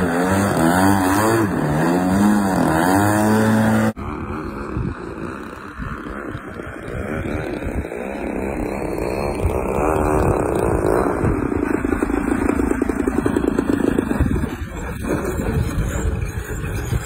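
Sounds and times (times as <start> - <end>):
model plane motor buzzing: 0.0 - 17.0
wind on microphone: 0.0 - 17.0.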